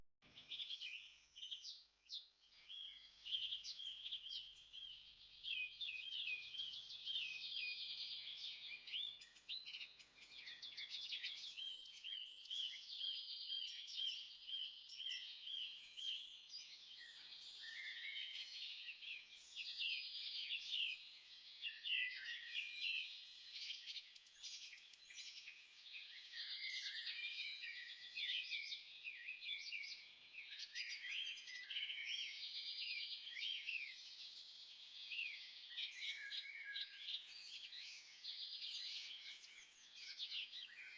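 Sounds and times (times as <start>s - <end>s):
small birds chirping: 0.2s - 40.9s.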